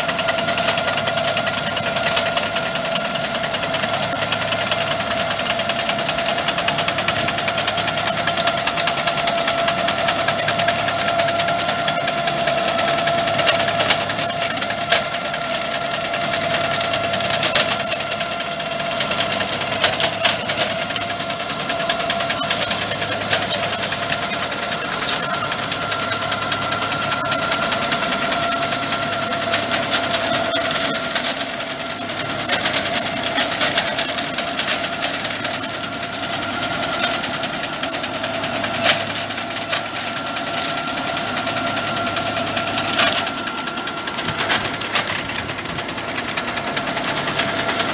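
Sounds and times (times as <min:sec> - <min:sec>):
fast rattling chatter: 0:00.0 - 0:47.9
high whine of hedge shear: 0:00.0 - 0:47.9
tractor engine under load: 0:00.0 - 0:47.9.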